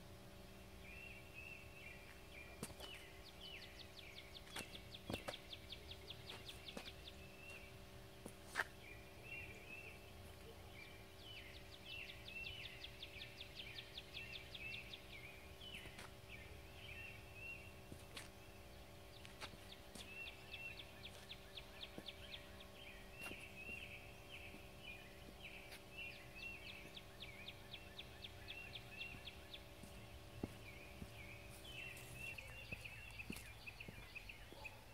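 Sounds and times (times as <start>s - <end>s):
faint steady hum: 0.0s - 34.9s
wild birds singing: 0.0s - 34.9s.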